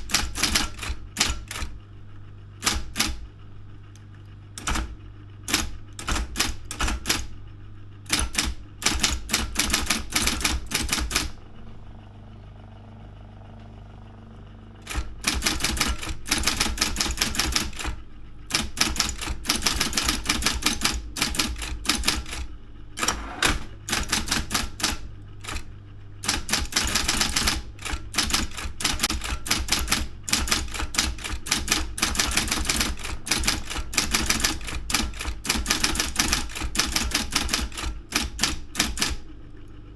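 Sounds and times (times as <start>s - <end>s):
typewriter keystrokes: 0.0s - 1.8s, 2.6s - 3.3s, 4.6s - 7.4s, 8.1s - 11.4s, 14.8s - 39.3s
typewriter motor hum: 0.0s - 39.9s.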